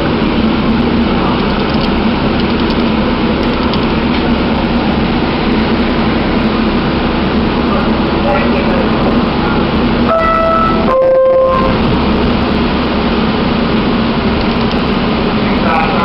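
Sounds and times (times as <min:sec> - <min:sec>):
train wheels and motors rumbling: 0:00.0 - 0:16.0.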